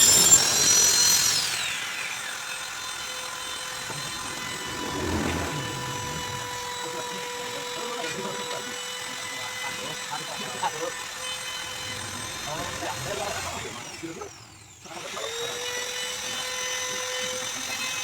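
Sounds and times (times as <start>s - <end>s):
power tool whining and spinning down: 0.0s - 18.0s.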